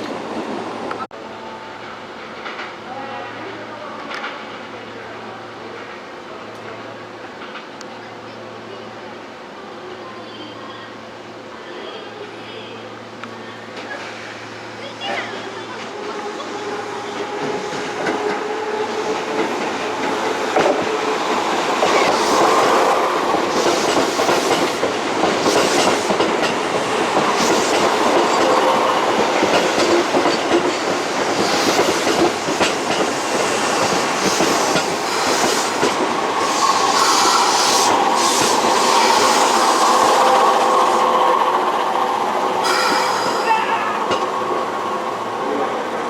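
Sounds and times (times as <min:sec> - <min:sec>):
train rolling noise: 0:00.0 - 0:46.0.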